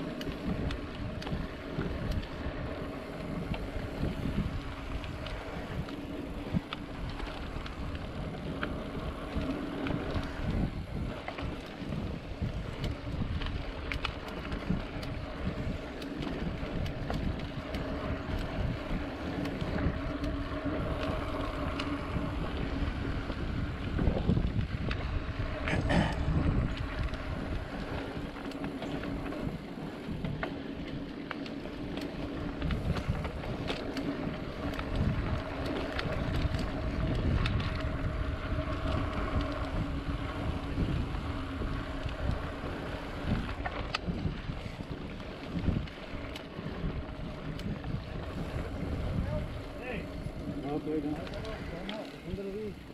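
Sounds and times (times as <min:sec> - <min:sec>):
bike tyres on dirt trail: 0:00.0 - 0:52.9
wind buffeting microphone: 0:00.0 - 0:52.9.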